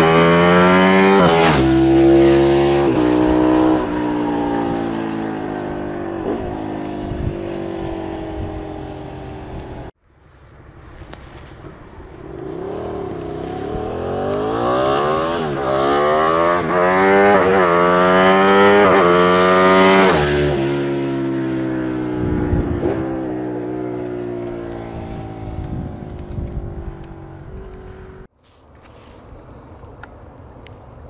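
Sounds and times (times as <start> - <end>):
motorcycle accelerating and shifting gears: 0.0 - 10.0, 10.9 - 28.3.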